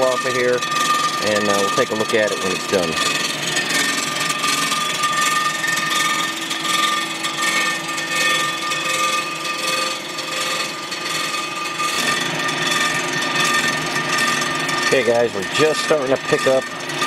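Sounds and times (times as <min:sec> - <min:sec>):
cutter hissing on metal: 0:00.0 - 0:17.0
machine whine: 0:00.0 - 0:17.0.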